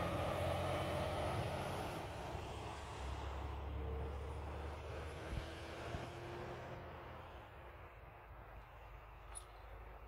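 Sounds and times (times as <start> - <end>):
highway traffic rumble: 0.0 - 10.0.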